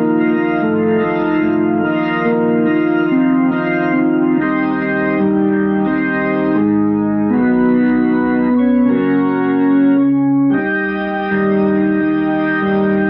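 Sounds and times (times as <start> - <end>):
organ chords through rotating speaker: 0.0 - 13.0.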